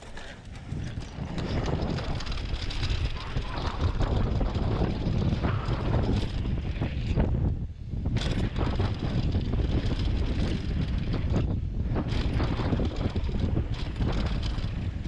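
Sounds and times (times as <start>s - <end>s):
bike rattling: 0.0s - 15.0s
bike tyres rolling on dirt: 0.0s - 15.0s
wind buffeting microphone: 0.0s - 15.0s.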